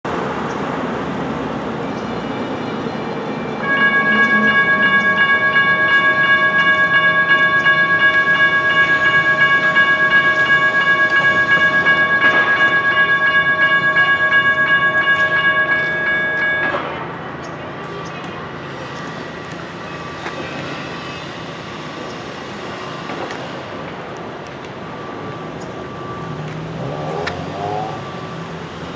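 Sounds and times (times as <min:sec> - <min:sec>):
railroad crossing bells dinging: 0:00.1 - 0:28.9.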